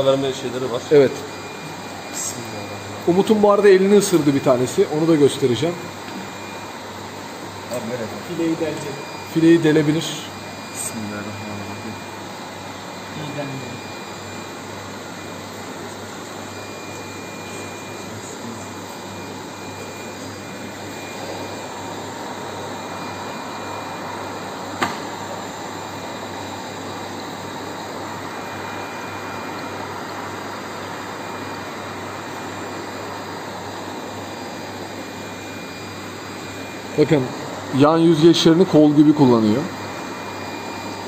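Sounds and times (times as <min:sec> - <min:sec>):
faint high whine: 0:00.0 - 0:41.0.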